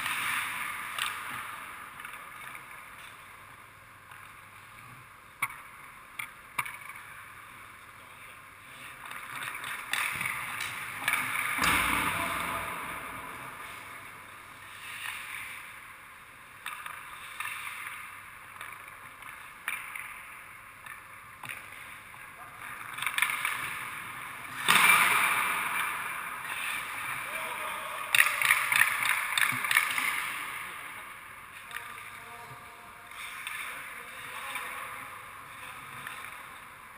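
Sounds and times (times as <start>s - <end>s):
stick and puck clacks: 0.0s - 36.9s.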